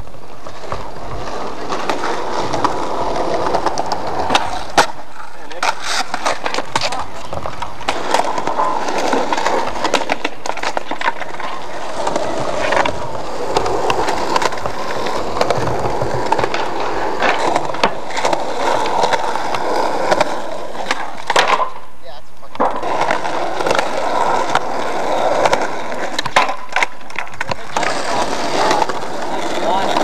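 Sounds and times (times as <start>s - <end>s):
skateboard clacking on ground: 0.0s - 30.0s
skateboard wheels rolling on concrete: 0.0s - 30.0s.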